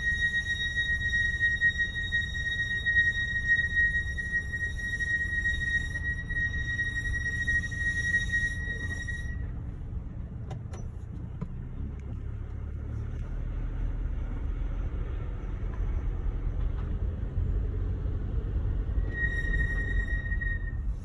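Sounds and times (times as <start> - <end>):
low rumble of road and engine: 0.0 - 21.0.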